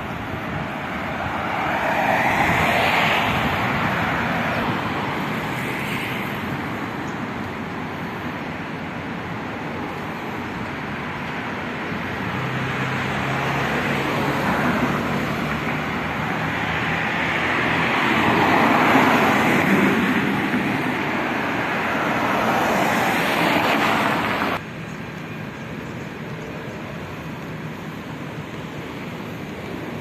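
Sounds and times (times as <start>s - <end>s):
cars driving past: 0.0s - 30.0s
steady traffic hum: 0.0s - 30.0s.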